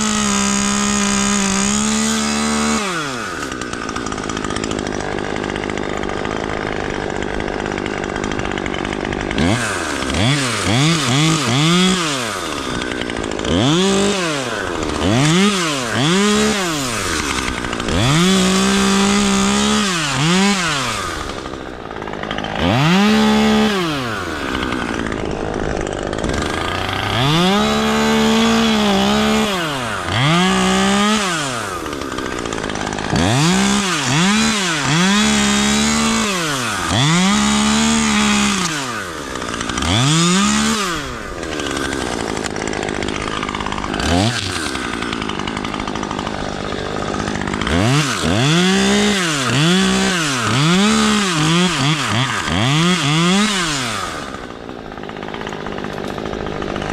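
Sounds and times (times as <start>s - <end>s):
electric chainsaw motor whining: 0.0s - 56.9s.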